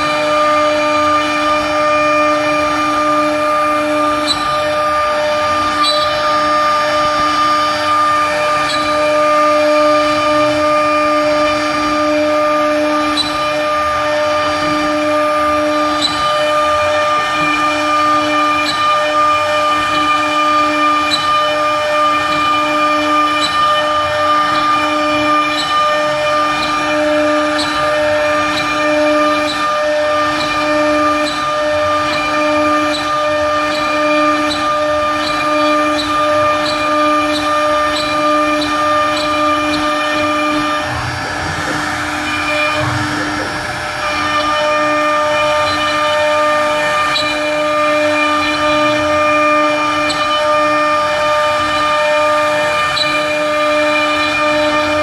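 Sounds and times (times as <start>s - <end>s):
bit carving wood: 0.0s - 55.0s
router spindle whining: 0.0s - 55.0s.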